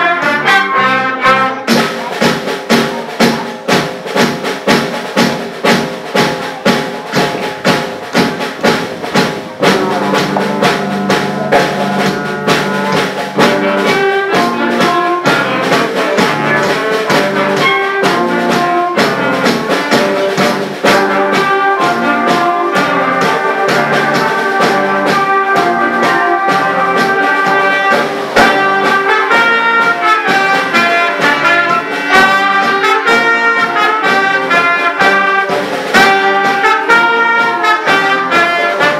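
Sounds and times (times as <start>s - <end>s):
concert band playing: 0.0s - 38.9s
steady beat: 1.6s - 38.9s.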